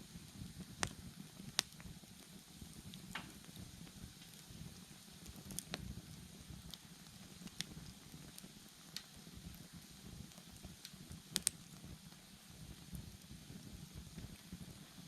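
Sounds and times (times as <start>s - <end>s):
bonfire crackling and popping: 0.0s - 15.0s
low rustle of burning: 0.0s - 15.0s.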